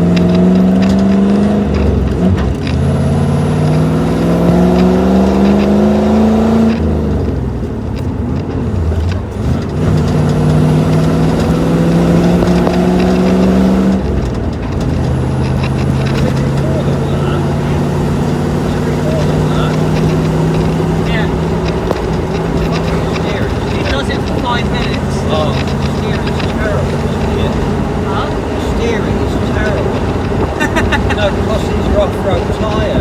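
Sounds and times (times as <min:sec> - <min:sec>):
car engine revving under load: 0:00.0 - 0:33.0.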